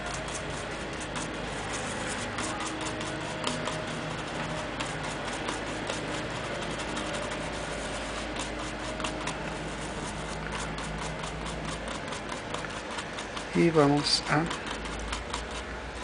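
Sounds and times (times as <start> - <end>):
brush scrubbing circuit board: 0.0 - 16.0.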